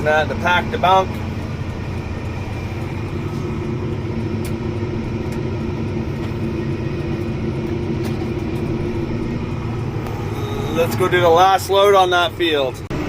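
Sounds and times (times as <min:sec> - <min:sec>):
heavy engine droning: 0:00.0 - 0:13.0.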